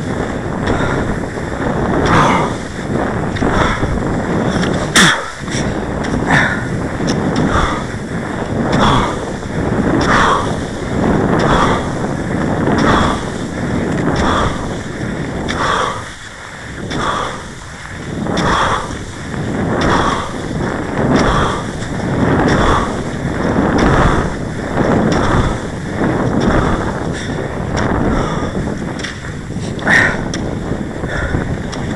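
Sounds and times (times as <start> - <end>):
skis swishing over snow: 0.0 - 31.9
wind noise on microphone: 0.0 - 31.9.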